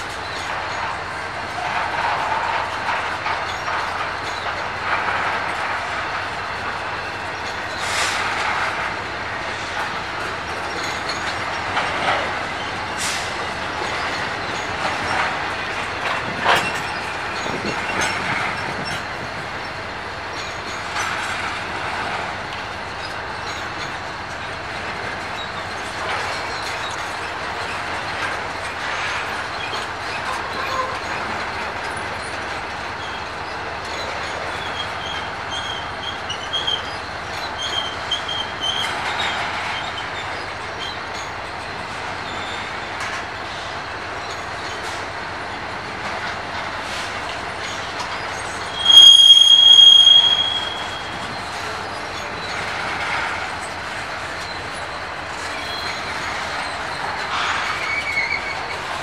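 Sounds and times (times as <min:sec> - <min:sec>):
train cars rumbling on rails: 0:00.0 - 0:59.0
train wheels squealing: 0:00.0 - 0:59.0.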